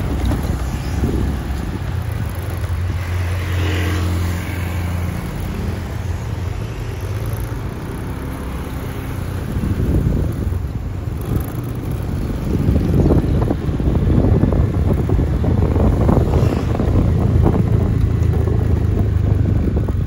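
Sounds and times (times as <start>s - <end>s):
wind and road noise: 0.0s - 20.0s.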